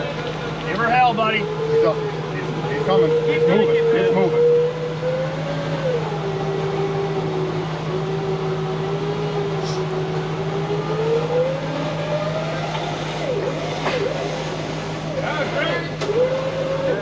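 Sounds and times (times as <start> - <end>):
vehicle engine under load: 0.0 - 17.0.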